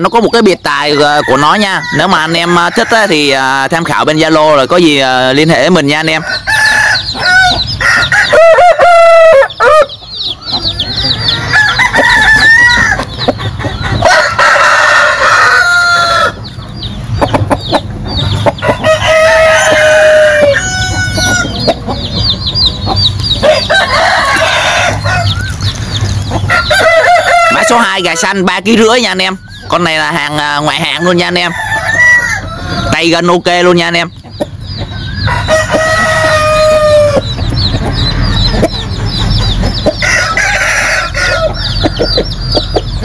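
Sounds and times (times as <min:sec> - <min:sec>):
chickens clucking: 0:00.0 - 0:43.0
roosters crowing: 0:00.0 - 0:43.0.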